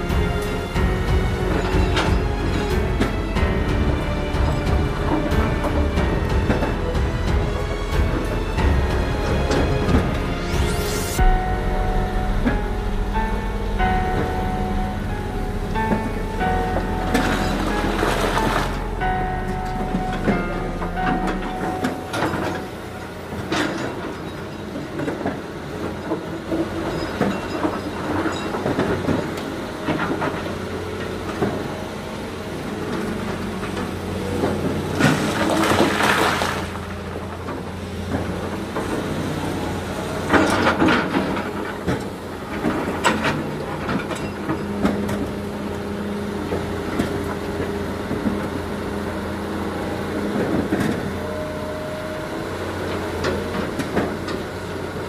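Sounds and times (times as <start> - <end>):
diesel machinery humming: 0.0 - 55.0.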